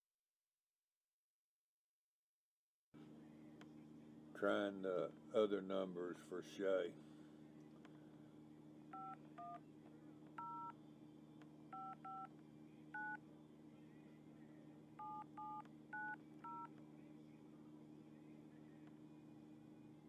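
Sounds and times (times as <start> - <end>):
faint low hum: 3.0 - 20.0.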